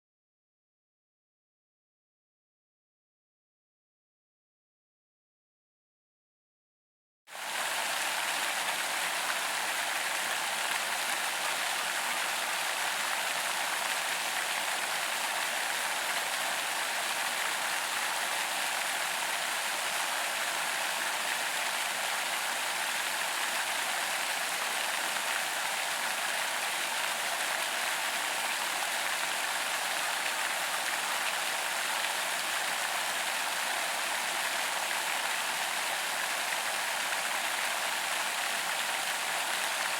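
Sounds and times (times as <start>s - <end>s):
fountain water splashing: 7.3s - 39.9s.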